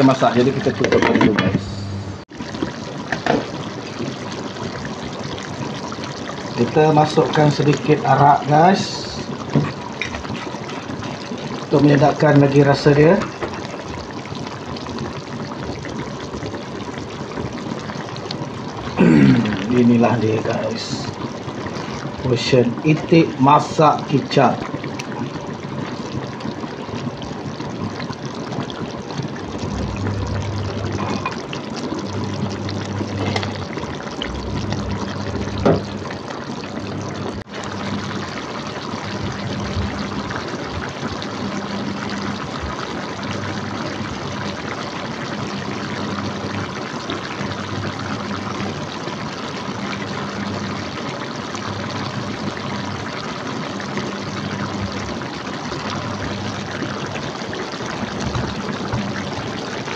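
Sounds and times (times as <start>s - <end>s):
sauce bubbling in a pot: 0.0s - 59.9s.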